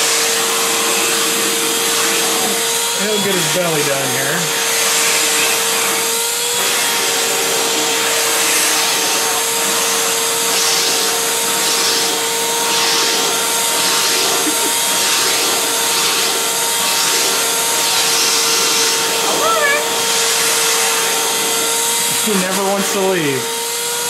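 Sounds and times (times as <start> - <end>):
vacuum cleaner running: 0.0 - 24.0
vacuum nozzle hissing over fur: 0.0 - 24.0.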